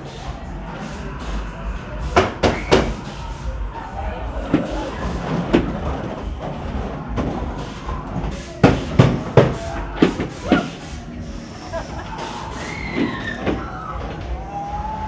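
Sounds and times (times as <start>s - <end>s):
voices: 0.0s - 15.0s.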